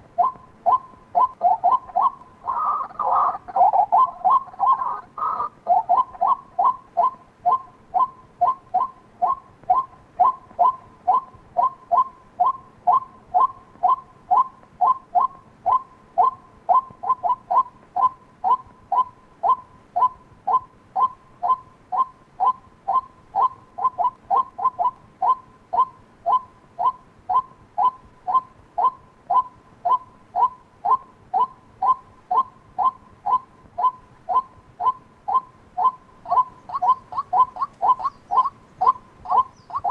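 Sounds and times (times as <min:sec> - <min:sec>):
waterhen short sharp calls: 0:00.2 - 0:39.9.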